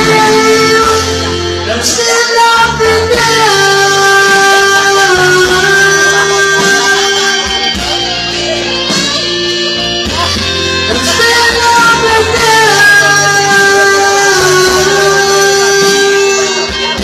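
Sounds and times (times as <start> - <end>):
backing music track: 0.0 - 17.0
man singing: 0.0 - 17.0.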